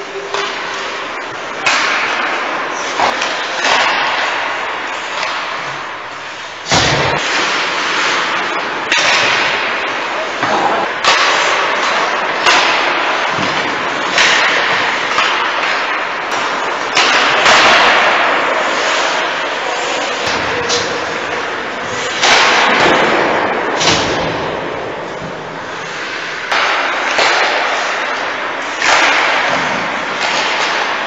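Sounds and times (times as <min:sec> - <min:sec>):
noisy arena background: 0:00.0 - 0:31.0
puck and sticks cracking on boards: 0:00.3 - 0:05.9, 0:06.7 - 0:31.0.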